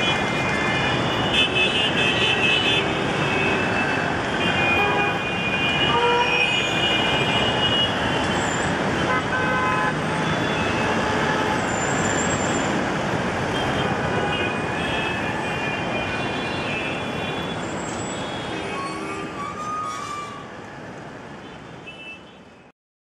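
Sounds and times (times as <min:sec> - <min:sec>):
passing vehicles: 0:00.0 - 0:21.8.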